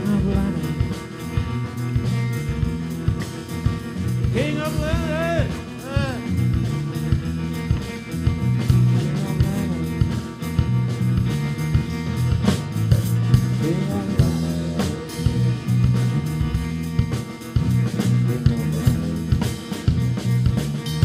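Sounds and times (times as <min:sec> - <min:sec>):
drum kit: 0:00.0 - 0:21.0
electric guitars: 0:00.0 - 0:21.0
low bass line: 0:00.0 - 0:21.0.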